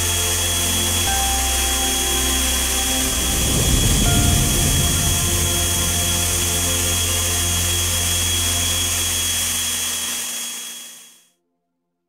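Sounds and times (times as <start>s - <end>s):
rushing air: 0.0s - 11.1s
electric fan whining: 0.0s - 11.2s.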